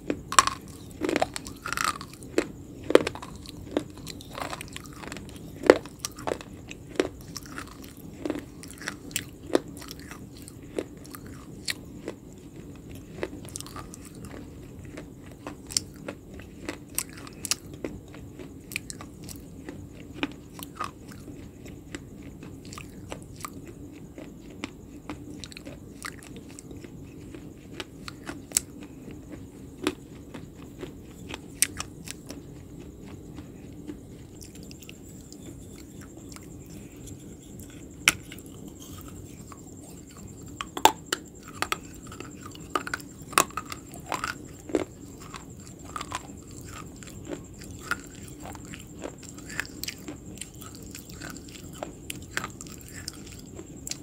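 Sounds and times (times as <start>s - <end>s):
mouth chewing brittle food: 0.0s - 54.0s
steady low hum: 0.0s - 54.0s.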